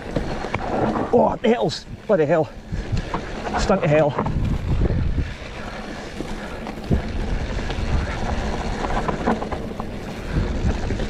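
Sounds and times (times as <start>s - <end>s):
bike rattling: 0.0s - 11.0s
bike tyres rumbling on dirt: 0.0s - 11.0s
wind on microphone: 0.6s - 11.0s.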